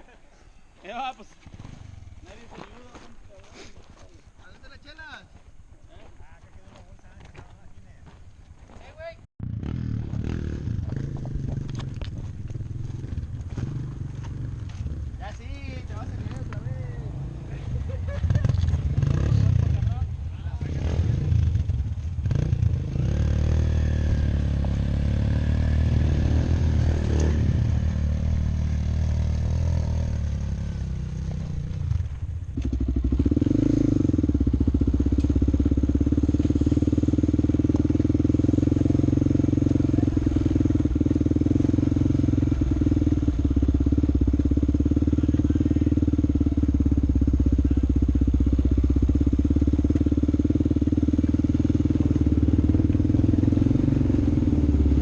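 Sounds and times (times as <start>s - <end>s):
vehicle engine running: 9.9s - 55.0s.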